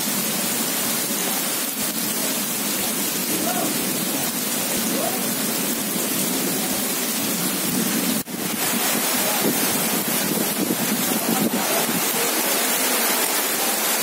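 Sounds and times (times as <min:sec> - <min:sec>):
rain pouring onto a wet street: 0:00.0 - 0:14.0.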